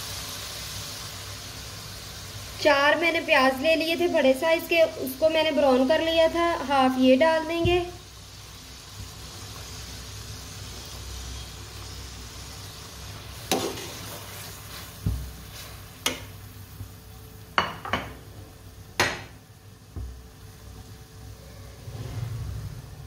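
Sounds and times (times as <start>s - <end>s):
food sizzling in a pot: 0.0s - 23.0s.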